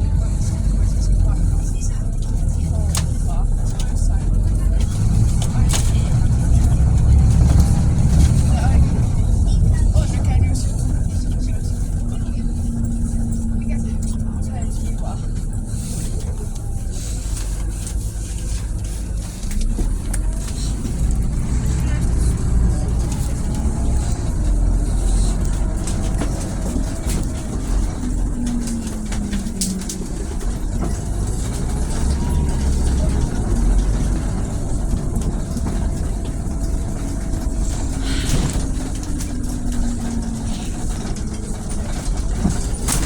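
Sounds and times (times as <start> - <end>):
bus engine rumble: 0.0 - 43.0.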